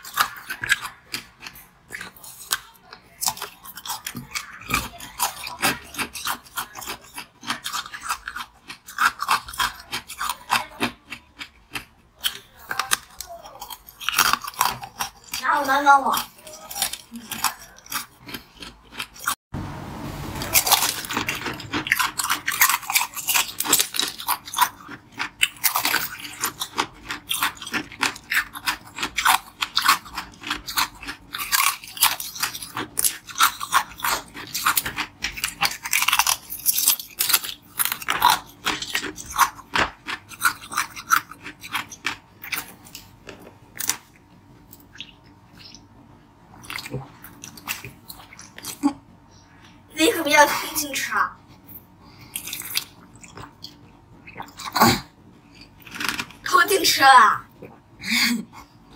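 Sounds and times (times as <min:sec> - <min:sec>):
ice being chewed: 0:00.0 - 0:19.4, 0:20.5 - 0:45.9, 0:51.6 - 0:56.6.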